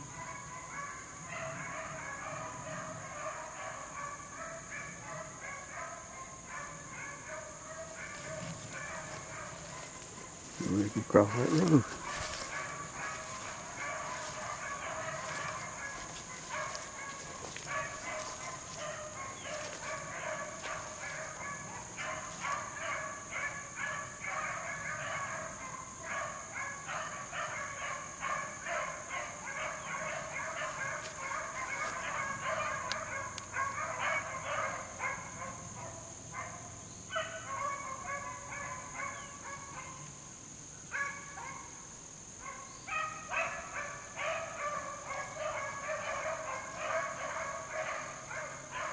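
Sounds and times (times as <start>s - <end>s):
dogs baying in chorus: 0.0s - 40.1s, 42.4s - 48.9s.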